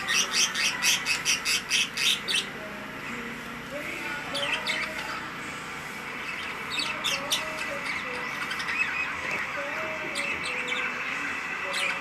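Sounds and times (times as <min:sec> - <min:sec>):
lovebirds chirping and chattering: 0:00.0 - 0:12.0.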